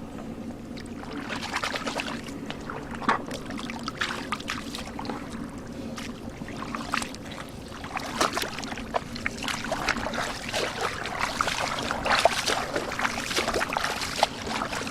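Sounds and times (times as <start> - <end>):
steady low hum: 0.0 - 14.9
shallow water splashing: 0.6 - 14.9.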